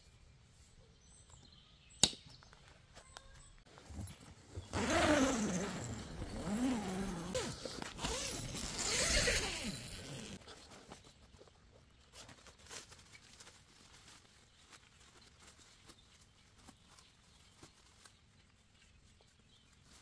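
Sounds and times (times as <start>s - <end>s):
faint clicks and rustles: 2.4s - 20.0s.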